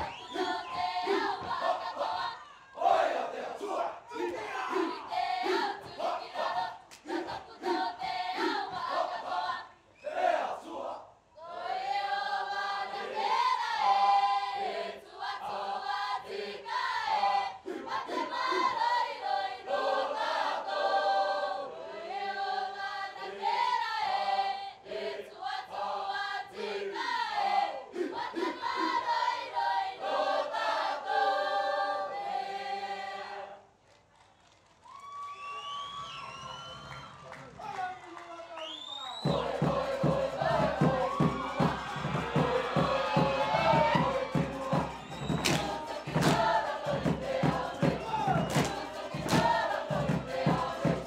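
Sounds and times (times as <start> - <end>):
group singing in harmony: 0.0 - 33.7, 39.2 - 51.0.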